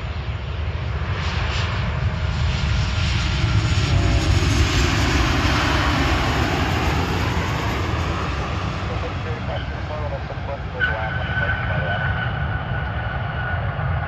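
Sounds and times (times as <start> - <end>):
jet engines landing: 0.0 - 14.0.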